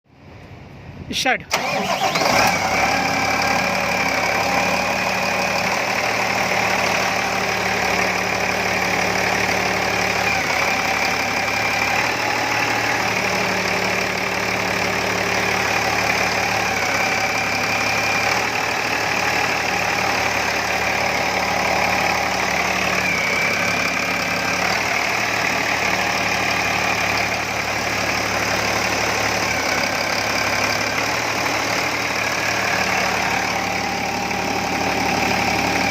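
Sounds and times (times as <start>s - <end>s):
car engine idling: 1.6s - 35.9s.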